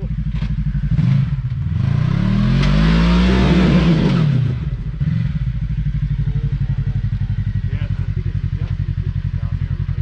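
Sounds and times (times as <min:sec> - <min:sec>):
utility vehicle engine revving: 0:00.0 - 0:10.0.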